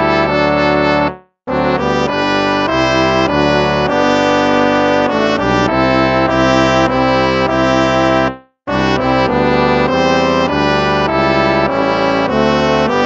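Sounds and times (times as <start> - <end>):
brass instruments playing a hymn: 0.0 - 13.0.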